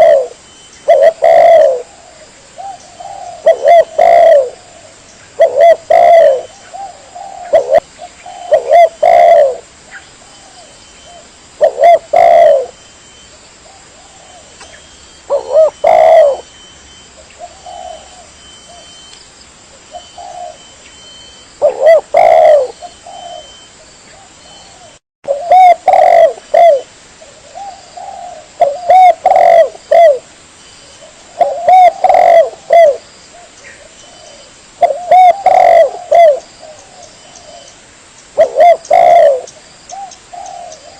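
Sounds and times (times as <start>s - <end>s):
dove cooing: 0.0s - 19.0s, 19.9s - 30.3s, 31.0s - 37.7s, 38.4s - 40.9s.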